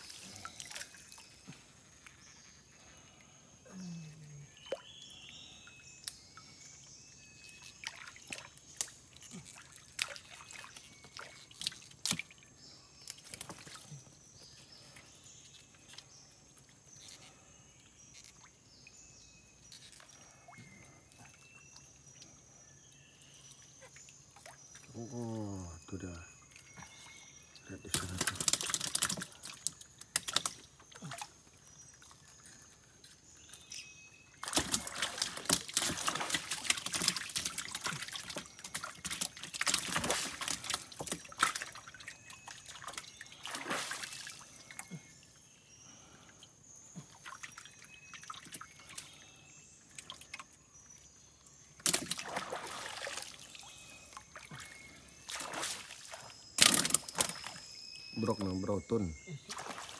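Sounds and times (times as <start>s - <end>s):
water trickling and splashing: 0.0s - 2.3s, 4.5s - 19.0s, 23.2s - 59.9s.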